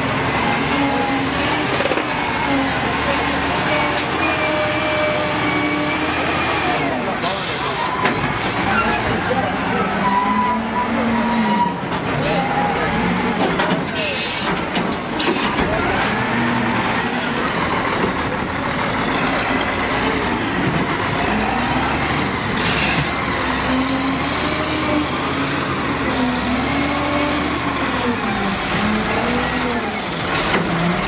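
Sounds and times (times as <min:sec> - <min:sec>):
diesel engine running hard: 0:00.0 - 0:31.0.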